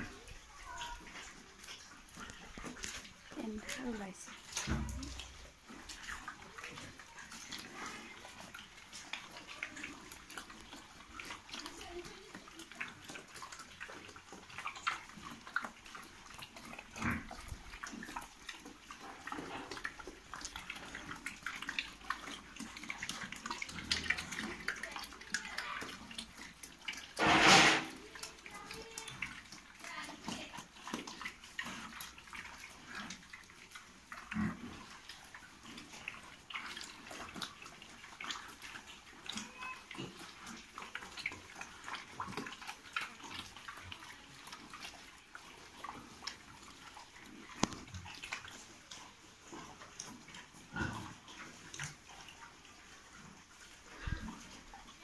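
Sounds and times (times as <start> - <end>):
pigs smacking and slurping: 0.0 - 55.0.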